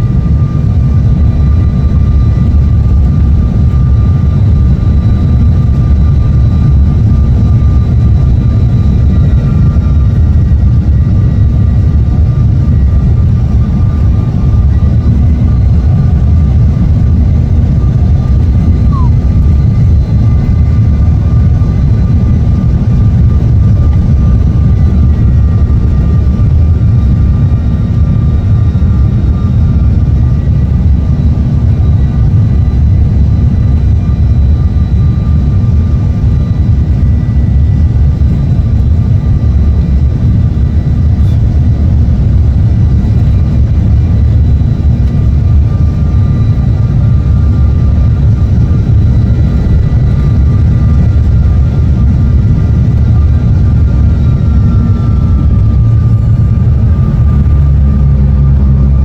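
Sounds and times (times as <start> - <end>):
airliner engine and airflow rumble: 0.0 - 59.0
faint steady whine: 0.0 - 59.0.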